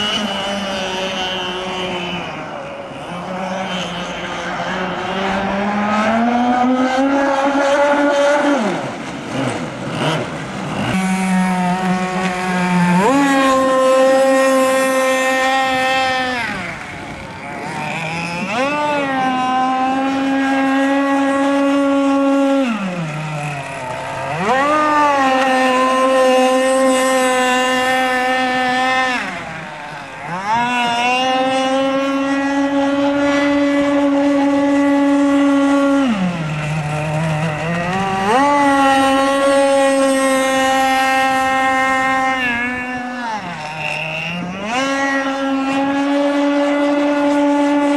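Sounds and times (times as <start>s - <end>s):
powerboat engine screaming: 0.0s - 47.9s.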